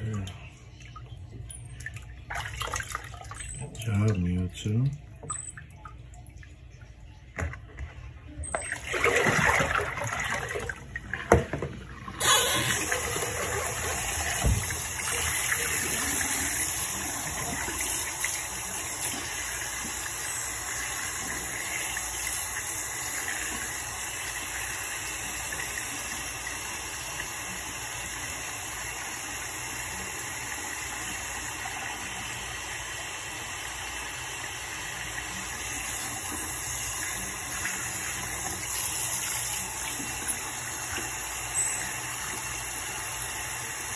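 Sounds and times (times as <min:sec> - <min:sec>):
water splashing into sink: 0:00.0 - 0:04.2, 0:04.9 - 0:43.9
faucet running into basin: 0:00.0 - 0:43.9.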